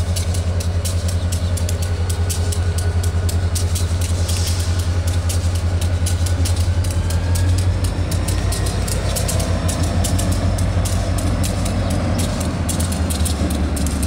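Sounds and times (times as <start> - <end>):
diesel locomotive engine pulsing: 0.0 - 14.0
sharp clicks: 0.0 - 14.0.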